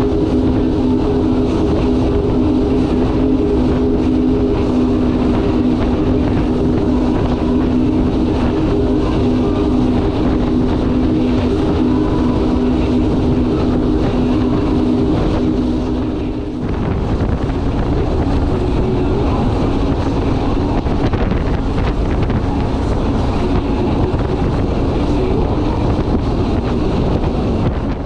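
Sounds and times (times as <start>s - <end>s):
powerboat engines: 0.0s - 28.0s
wind buffeting microphone: 0.0s - 28.0s.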